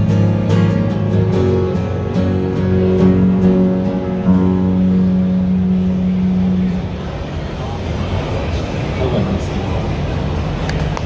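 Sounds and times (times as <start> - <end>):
guitar playing: 0.0 - 9.0.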